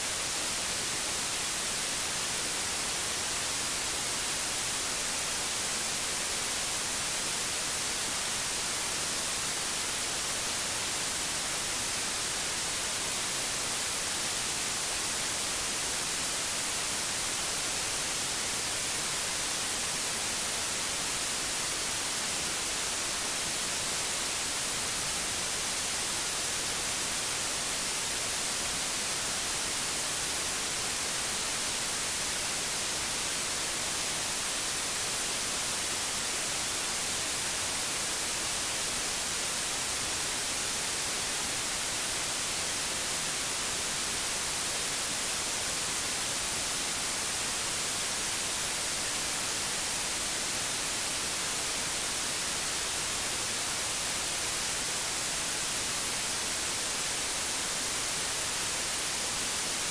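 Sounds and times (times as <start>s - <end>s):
steady white noise hiss: 0.0s - 59.9s.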